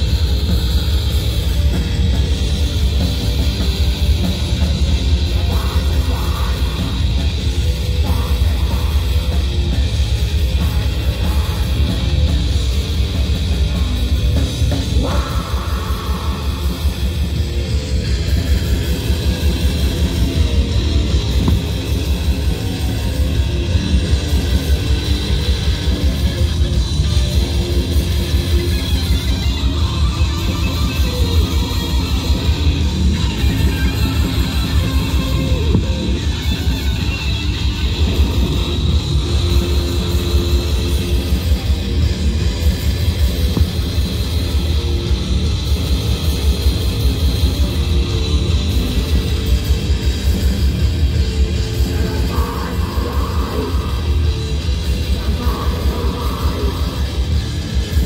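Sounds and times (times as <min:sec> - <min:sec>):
bass guitar: 0:00.0 - 0:58.0
distorted electric guitars: 0:00.0 - 0:58.0
drum kit: 0:00.0 - 0:58.0.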